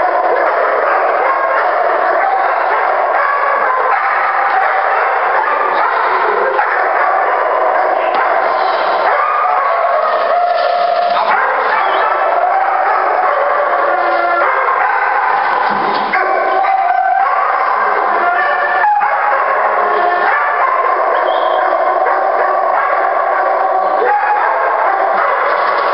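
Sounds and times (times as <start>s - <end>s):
dog barking and yelping: 0.0s - 25.9s.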